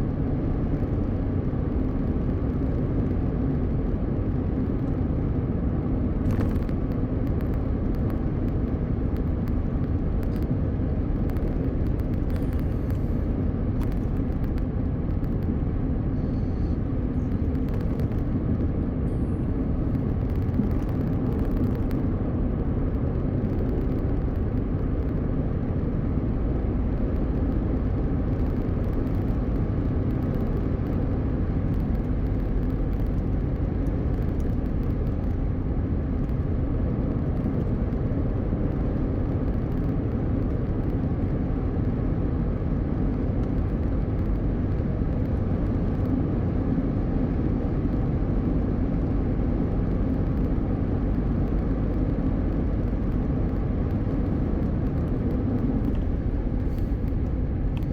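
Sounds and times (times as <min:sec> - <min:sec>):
car engine hum: 0:00.0 - 0:57.9
tyre and road noise: 0:00.1 - 0:57.9.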